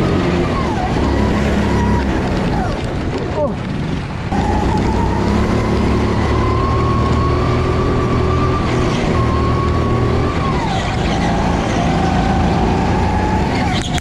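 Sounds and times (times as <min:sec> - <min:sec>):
race car engine at high revs: 0:00.0 - 0:03.1, 0:04.3 - 0:14.0.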